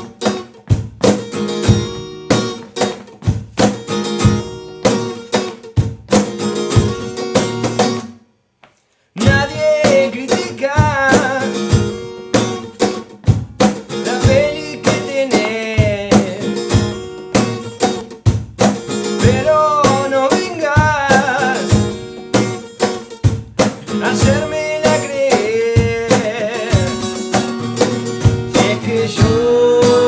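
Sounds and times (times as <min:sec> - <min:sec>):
acoustic guitar playing chords: 0:00.0 - 0:08.2, 0:09.2 - 0:30.0.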